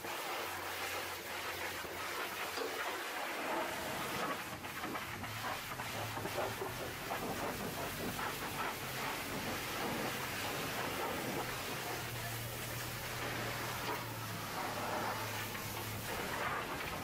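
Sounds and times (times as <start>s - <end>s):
pressure washer spraying metal: 0.0s - 17.0s.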